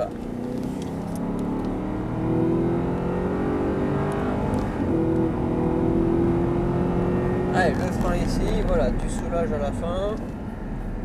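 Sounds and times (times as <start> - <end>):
car engine accelerating hard: 0.0 - 10.2.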